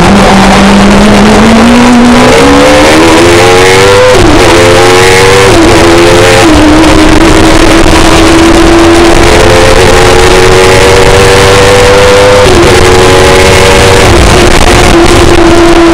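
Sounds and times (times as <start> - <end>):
race car engine at full throttle: 0.0 - 15.9.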